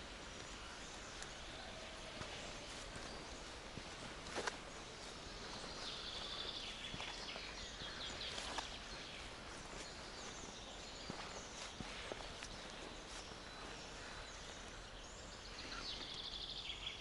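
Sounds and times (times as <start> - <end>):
small birds chirping: 0.0 - 17.0
soft footsteps on forest path: 0.0 - 17.0.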